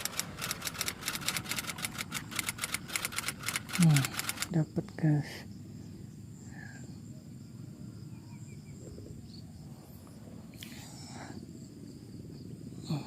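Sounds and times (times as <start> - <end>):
insects droning: 0.0 - 13.0
faint chirps: 1.8 - 13.0.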